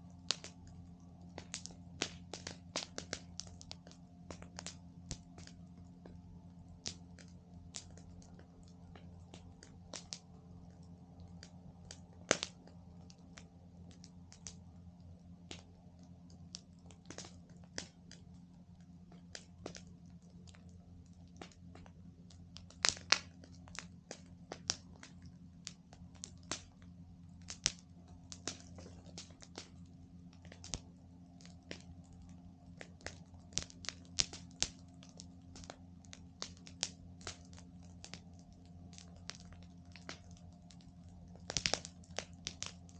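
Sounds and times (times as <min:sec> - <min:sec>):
campfire crackling and popping: 0:00.0 - 0:42.9
faint low hum: 0:00.0 - 0:42.9.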